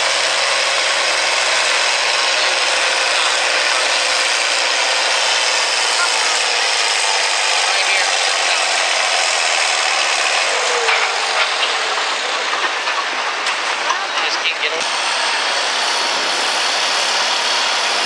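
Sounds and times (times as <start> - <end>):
tow tractor engine: 0.0 - 18.0
tractor diesel engine running: 0.0 - 18.0.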